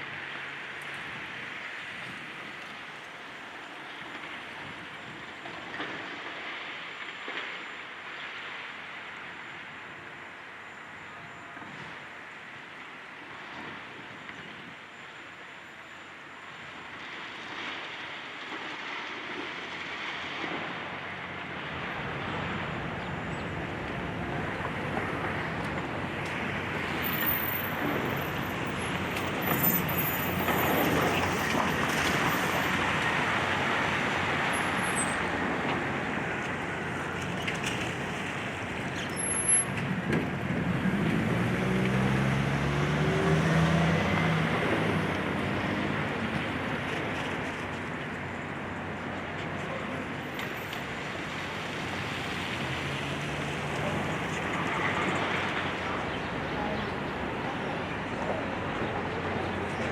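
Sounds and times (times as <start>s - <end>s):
heavy engine and road noise: 0.0s - 59.9s.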